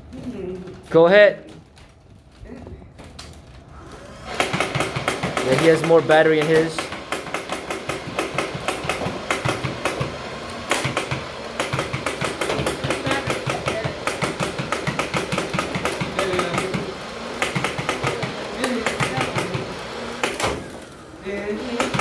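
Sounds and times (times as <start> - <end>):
toy blaster motor with rapid clacks: 4.3 - 22.0.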